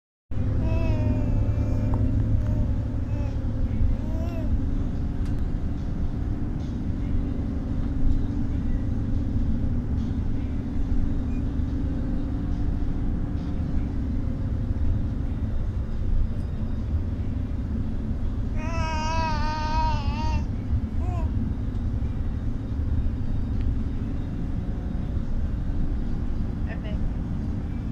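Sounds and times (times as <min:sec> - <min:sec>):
bus engine and road rumble: 0:00.3 - 0:27.9.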